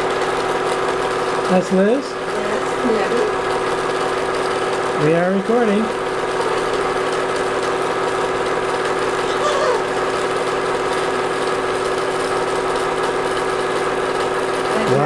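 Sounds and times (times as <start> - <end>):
film projector humming: 0.0 - 15.0.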